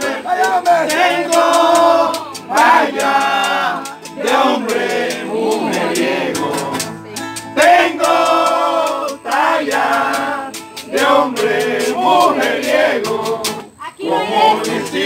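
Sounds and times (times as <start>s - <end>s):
male vocal trio singing: 0.0s - 15.0s
strummed acoustic guitars: 0.0s - 15.0s.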